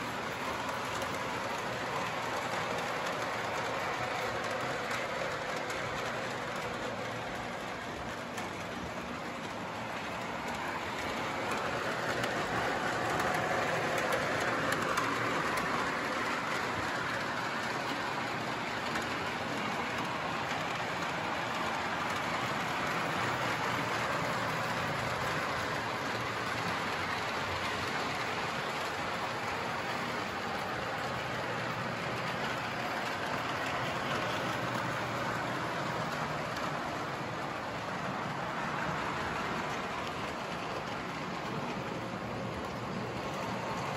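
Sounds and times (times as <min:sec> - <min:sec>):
model train clattering on track: 0:00.0 - 0:43.9.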